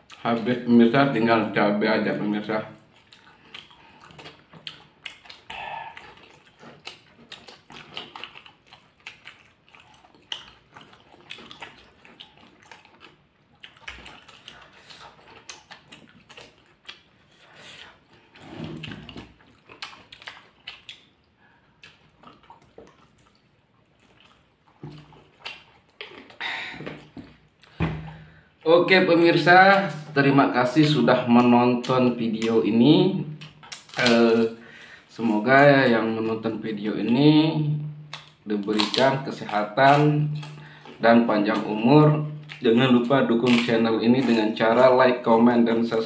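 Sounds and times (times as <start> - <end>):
chewing and wet mouth sounds: 0.0 - 46.0.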